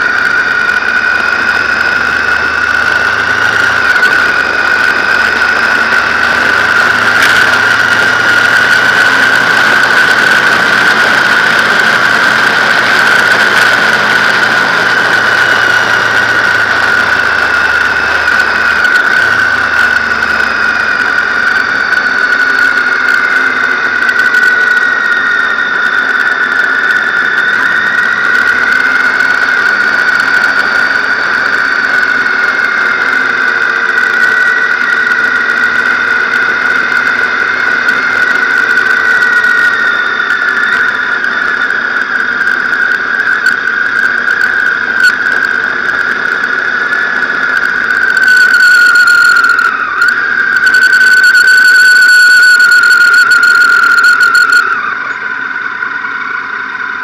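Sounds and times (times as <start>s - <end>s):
high-pitched whine: 0.0s - 57.0s
motorcycle engine running: 0.0s - 57.0s.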